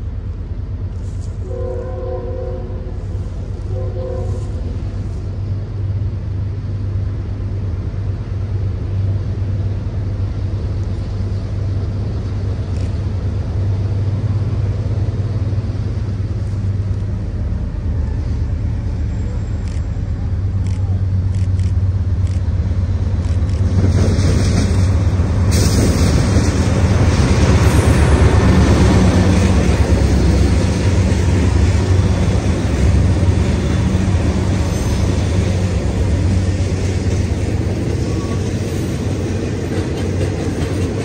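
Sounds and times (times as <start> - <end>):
diesel locomotive engines: 0.0 - 41.0
wheels rumbling on rail: 0.0 - 41.0.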